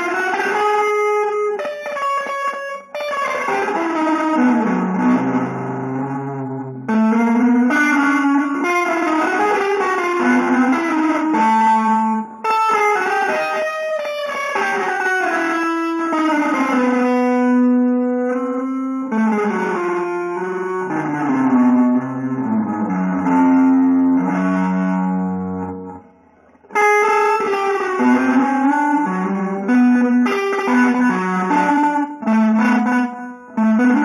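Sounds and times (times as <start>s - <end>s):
guitar melody: 0.0s - 34.0s.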